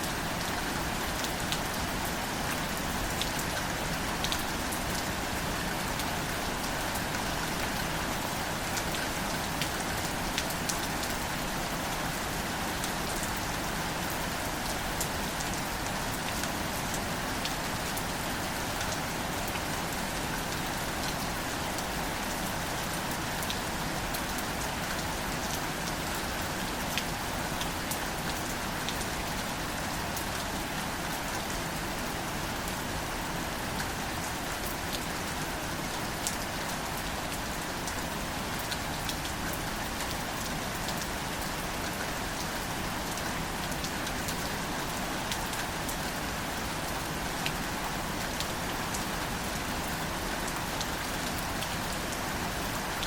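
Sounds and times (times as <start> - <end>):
rain falling on plants: 0.0 - 53.0.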